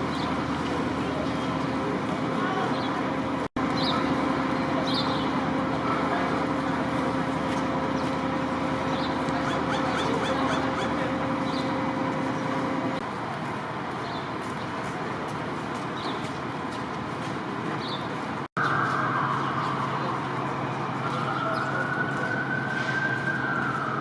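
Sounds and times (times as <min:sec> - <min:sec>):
fire truck engine running: 0:00.0 - 0:24.0.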